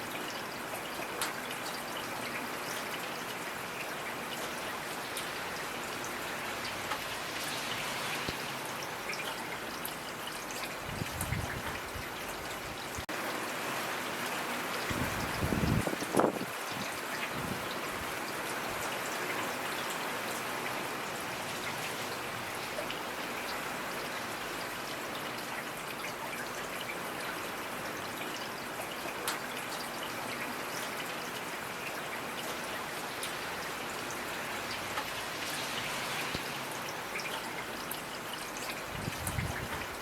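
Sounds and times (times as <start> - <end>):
trickle of running water: 0.0 - 40.0
raindrops pattering: 0.1 - 40.0.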